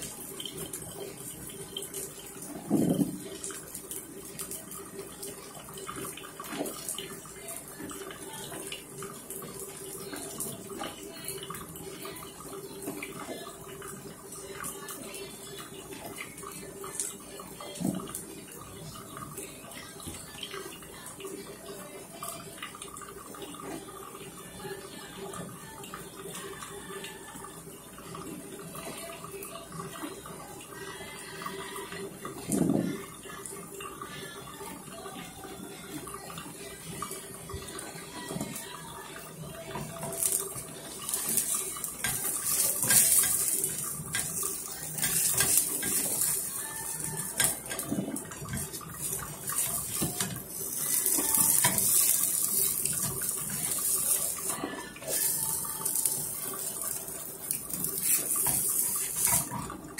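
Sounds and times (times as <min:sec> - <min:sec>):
pancake sizzling in oil: 0:00.0 - 0:59.8.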